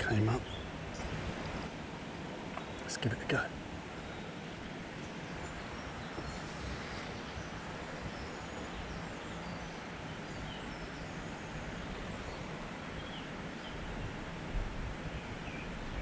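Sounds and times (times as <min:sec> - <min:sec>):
faint bird chirps: 0:00.0 - 0:01.2, 0:02.6 - 0:14.0, 0:15.0 - 0:16.0
steady rushing background noise: 0:00.0 - 0:16.0.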